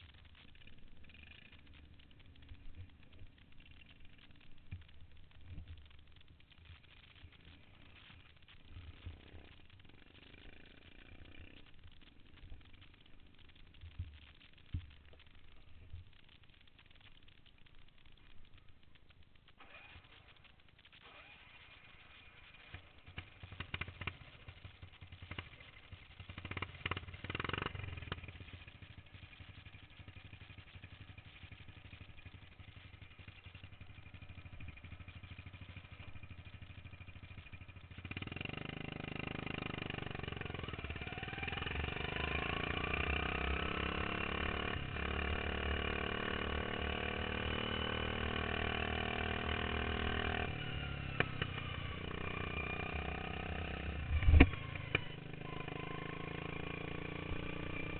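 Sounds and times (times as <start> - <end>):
lawn mower engine accelerating: 0.0 - 17.6, 19.6 - 57.9.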